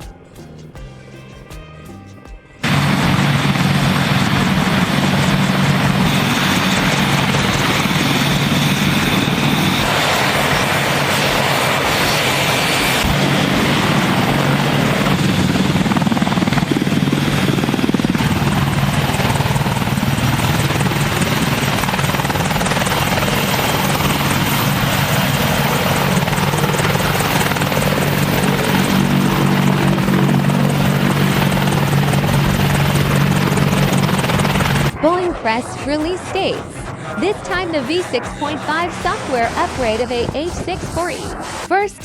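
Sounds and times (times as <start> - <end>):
helicopter rotor and turbine: 2.6 - 42.0.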